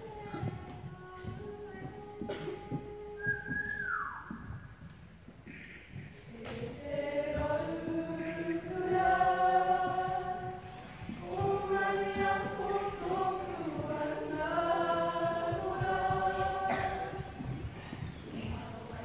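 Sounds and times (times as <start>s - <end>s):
children singing in unison: 0.0s - 3.2s, 6.2s - 19.0s.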